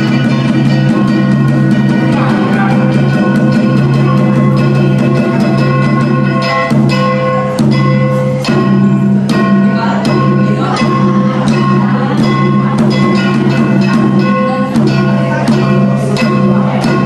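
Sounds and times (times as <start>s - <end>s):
bell-like ringing strike: 0.0s - 17.0s.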